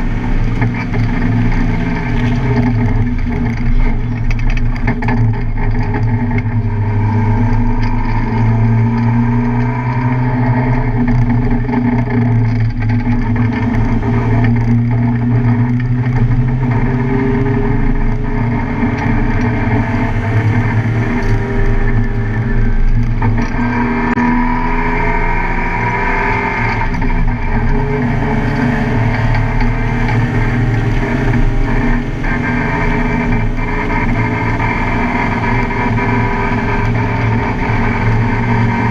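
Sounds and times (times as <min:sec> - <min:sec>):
car engine running hard: 0:00.0 - 0:38.9.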